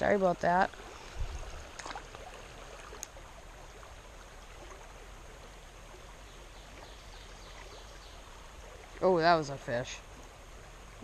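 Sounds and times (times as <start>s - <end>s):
small stream flowing: 0.0s - 11.0s.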